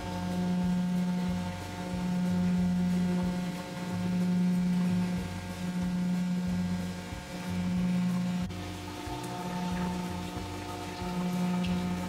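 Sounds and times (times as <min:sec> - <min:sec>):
deep machine throb: 0:00.0 - 0:12.0
machine hum: 0:00.0 - 0:12.0.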